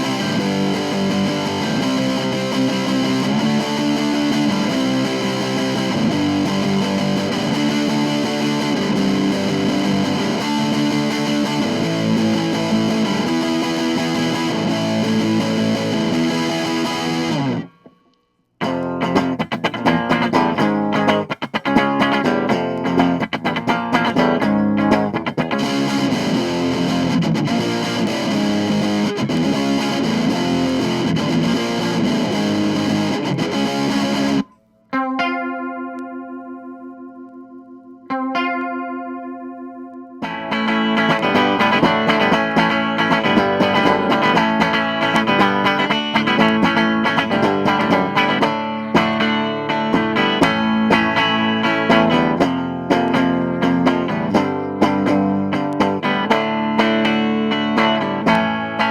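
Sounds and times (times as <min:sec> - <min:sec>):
distorted electric guitar chords: 0:00.0 - 0:58.9.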